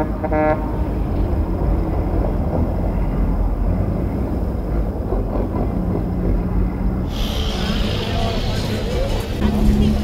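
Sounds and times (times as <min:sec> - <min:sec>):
diesel truck engines rumbling: 0:00.0 - 0:10.0.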